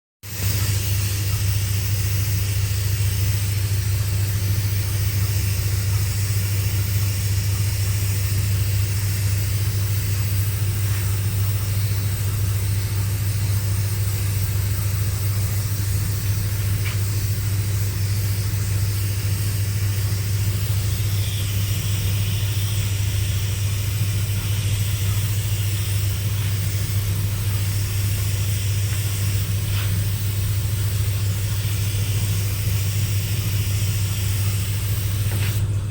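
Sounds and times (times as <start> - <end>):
electric motor humming: 0.3 - 35.9.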